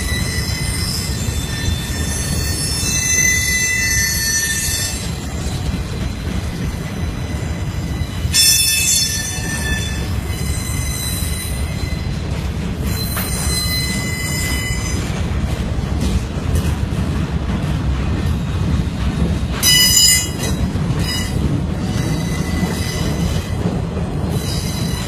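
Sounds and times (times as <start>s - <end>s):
steel wheels squealing on rails: 0.0s - 15.5s, 19.5s - 25.0s
freight train cars rumbling: 0.0s - 25.0s.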